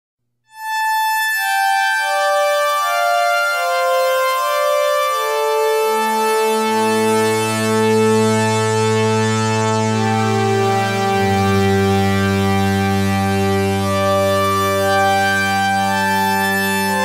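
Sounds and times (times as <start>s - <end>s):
synthesizer pad chord: 0.6s - 17.0s.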